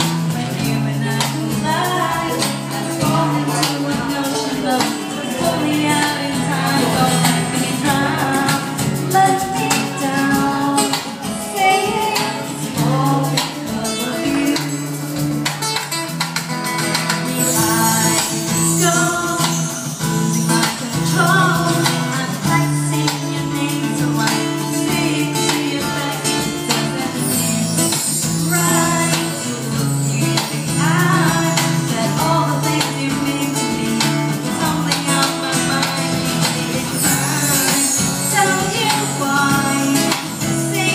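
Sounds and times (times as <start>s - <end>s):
woman singing into a microphone: 0.0s - 15.8s, 16.8s - 40.9s
hand percussion: 0.0s - 40.9s
strummed acoustic guitar: 0.0s - 40.9s.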